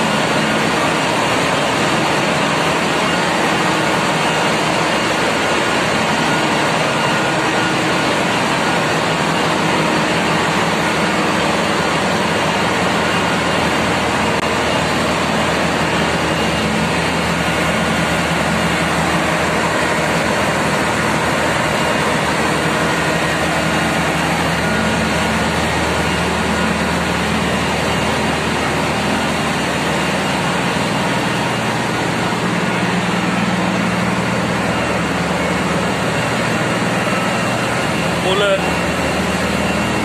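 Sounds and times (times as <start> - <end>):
engine room machinery drone: 0.0 - 40.0.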